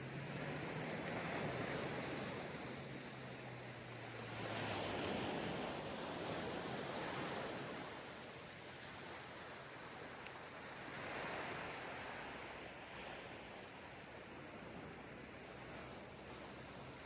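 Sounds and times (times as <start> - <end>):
small waves breaking on sand: 0.0 - 17.0.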